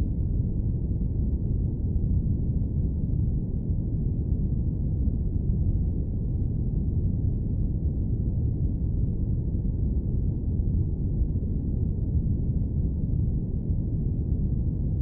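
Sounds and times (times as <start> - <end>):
deep airplane cabin rumble: 0.0 - 15.0.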